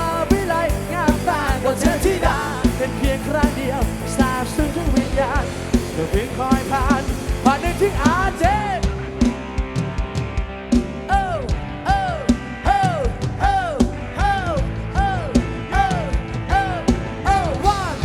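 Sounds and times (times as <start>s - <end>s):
steady drum beat: 0.0s - 18.0s.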